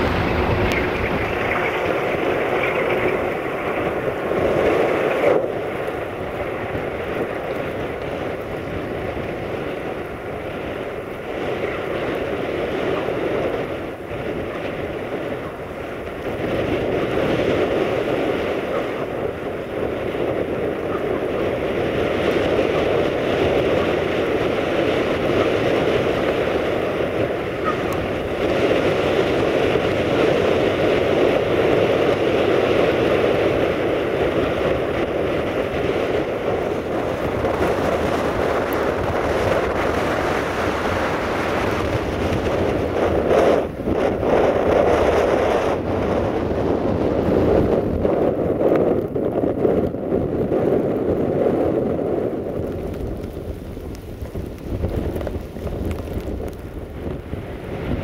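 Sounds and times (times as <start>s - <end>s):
wind blowing across microphone: 0.0s - 58.0s.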